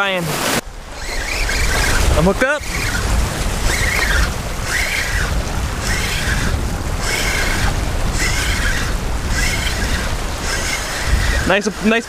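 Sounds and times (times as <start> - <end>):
surf washing over rocks: 0.0 - 12.0
wind rumble on microphone: 0.6 - 12.0
fishing reel whirring: 0.8 - 12.0.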